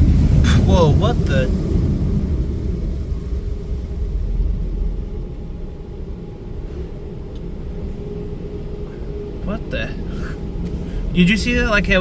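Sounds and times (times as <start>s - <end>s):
car wash blowers rumbling: 0.0s - 12.0s.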